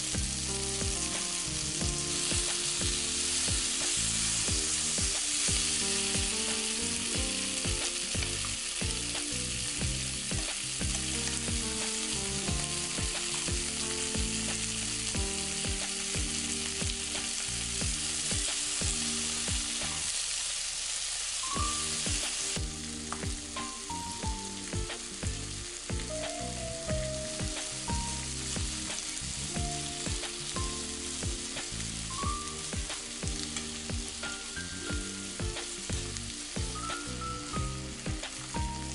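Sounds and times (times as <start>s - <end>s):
chicken sizzling in a frying pan: 0.0s - 38.9s.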